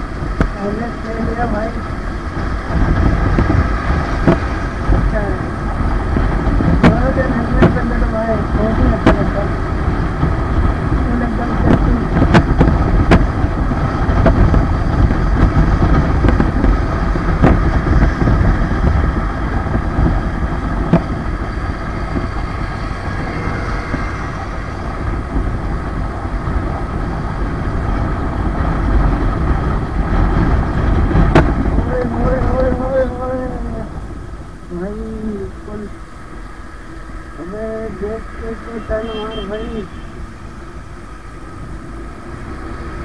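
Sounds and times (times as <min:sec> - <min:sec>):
wind and road noise: 0:00.0 - 0:43.0.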